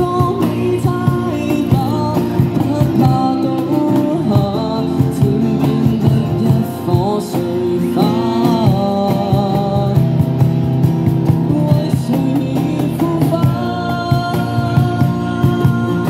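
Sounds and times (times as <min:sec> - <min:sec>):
man singing into microphone: 0:00.0 - 0:10.2, 0:11.3 - 0:16.0
guitar: 0:00.0 - 0:16.0.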